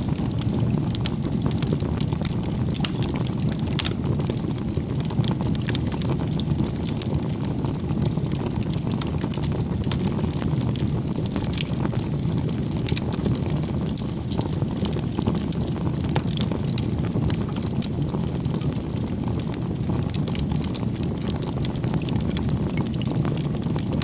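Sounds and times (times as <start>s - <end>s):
campfire low rush: 0.0s - 24.0s
campfire popping and snapping: 0.0s - 24.0s.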